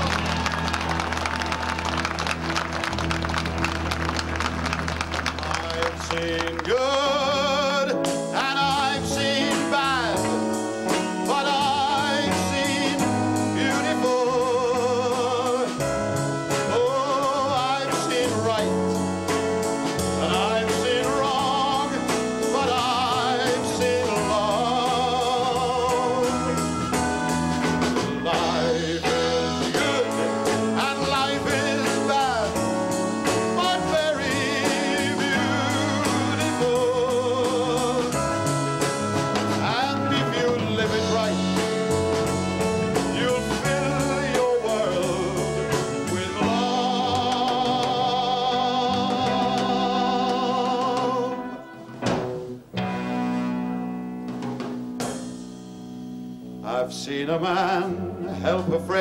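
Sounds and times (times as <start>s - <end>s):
band playing slow ballad: 0.0s - 59.0s
man singing: 5.5s - 27.0s, 27.9s - 42.3s, 42.9s - 51.8s, 56.6s - 59.0s.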